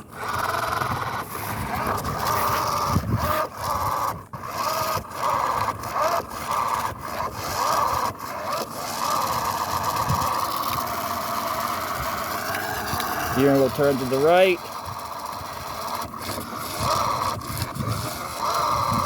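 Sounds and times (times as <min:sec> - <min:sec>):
small electric motor whining: 0:00.0 - 0:19.0
wheels spinning in sand: 0:00.0 - 0:19.0.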